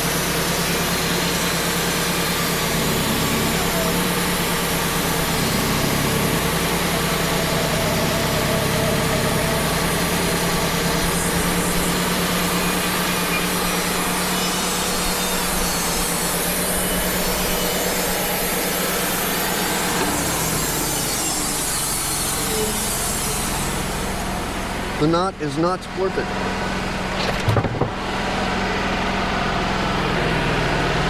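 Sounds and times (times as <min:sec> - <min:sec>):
band sawmill sawing log: 0:00.0 - 0:31.0.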